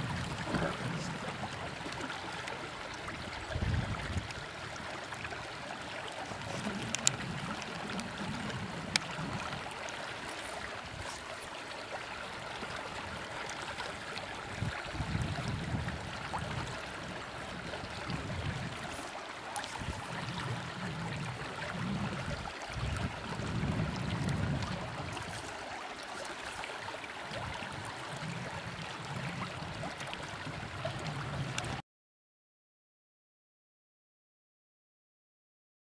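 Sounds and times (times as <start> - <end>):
river flowing past rocks: 0.0 - 31.8.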